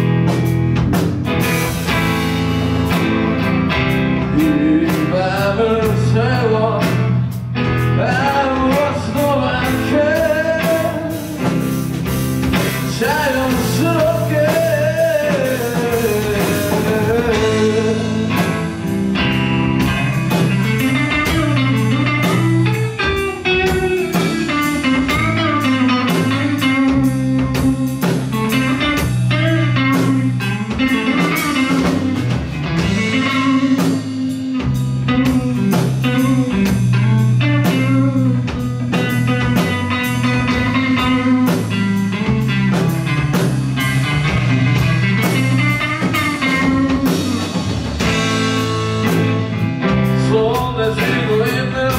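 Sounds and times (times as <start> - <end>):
bass: 0.0 - 51.9
drum kit beat: 0.0 - 51.9
electric guitar gliding: 0.0 - 51.9.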